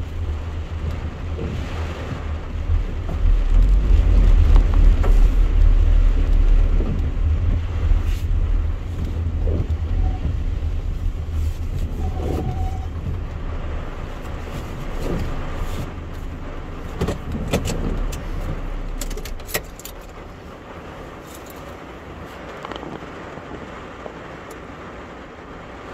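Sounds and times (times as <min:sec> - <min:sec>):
car rolling on wet pavement: 0:00.0 - 0:25.9.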